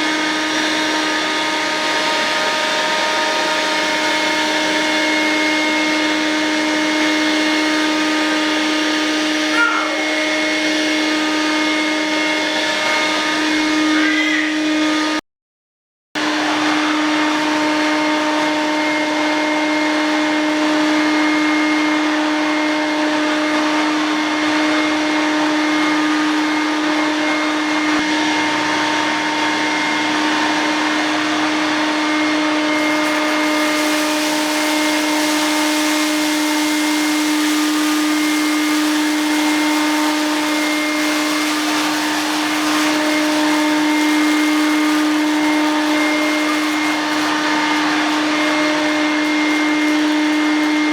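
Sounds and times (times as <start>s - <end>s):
vacuum cleaner whine and hiss: 0.0s - 15.2s, 16.2s - 50.9s.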